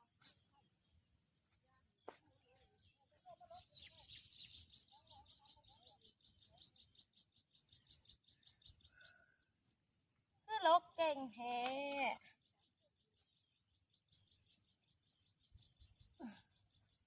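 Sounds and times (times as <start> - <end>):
bird chirping: 2.0 - 11.1, 12.0 - 17.0.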